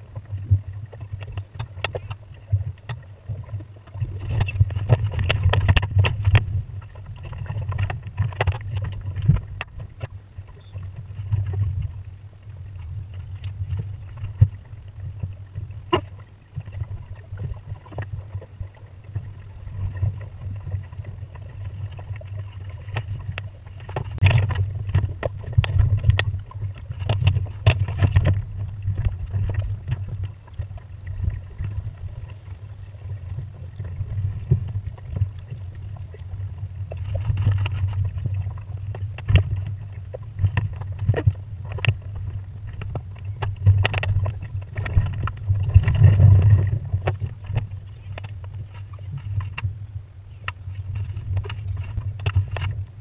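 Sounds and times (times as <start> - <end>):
water splashing against hull: 0.0 - 53.0
wind rumble on microphone: 0.0 - 53.0.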